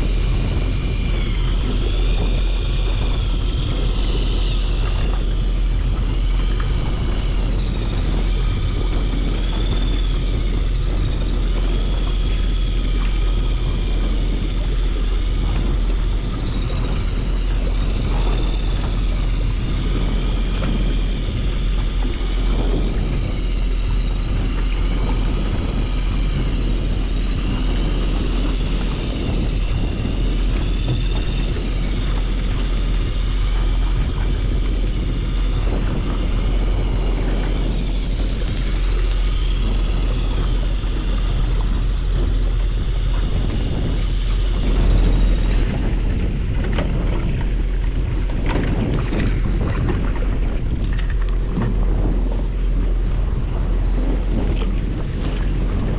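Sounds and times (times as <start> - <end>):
boat engine rumbling: 0.0 - 55.9
high whine: 0.0 - 55.9
wind buffeting microphone: 0.0 - 55.9.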